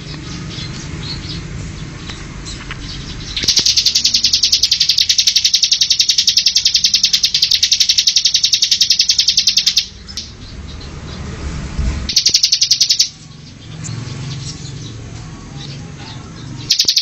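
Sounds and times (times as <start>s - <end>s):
bird chirping and trilling: 0.0s - 17.0s.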